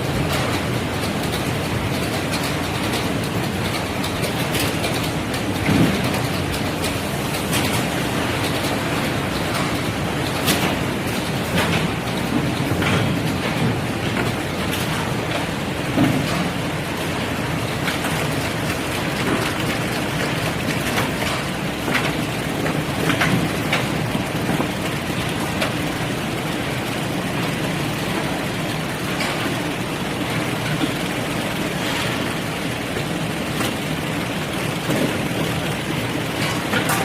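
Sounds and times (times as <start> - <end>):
sorting machine running: 0.0 - 37.0.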